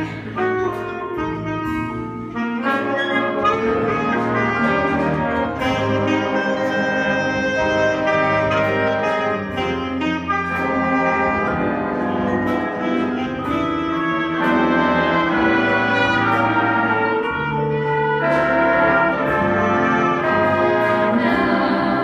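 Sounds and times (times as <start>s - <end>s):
brass sustained chords: 0.0s - 22.0s.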